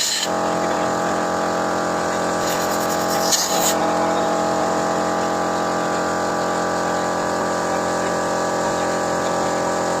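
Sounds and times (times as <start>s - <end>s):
car engine running: 0.1s - 10.0s.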